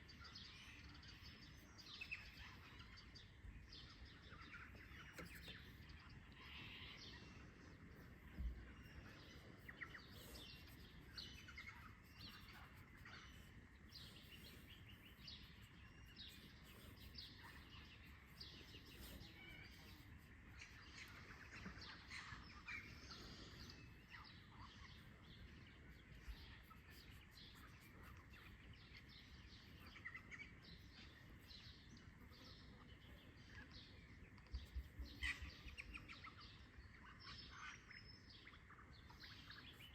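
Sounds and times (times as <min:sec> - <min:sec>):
birds chirping: 0:00.0 - 0:39.9
soft outdoor background: 0:00.0 - 0:39.9.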